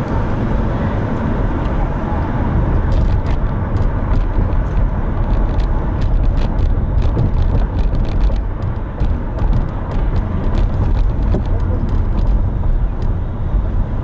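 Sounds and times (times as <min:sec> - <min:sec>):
loud low rumble: 0:00.0 - 0:14.0.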